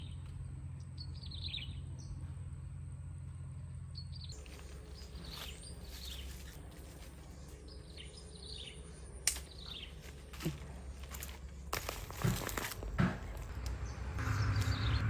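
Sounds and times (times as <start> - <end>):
small birds chirping: 0.0 - 2.6, 3.2 - 15.0
low steady background hum: 0.0 - 14.7.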